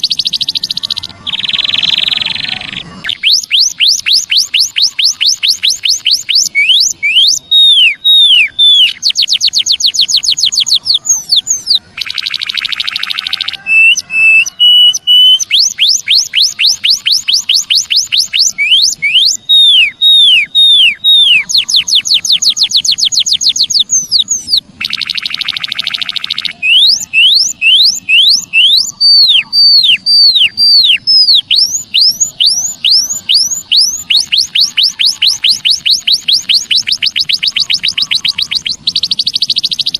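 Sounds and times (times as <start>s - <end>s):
sharp high bird chirps: 0.0s - 39.9s.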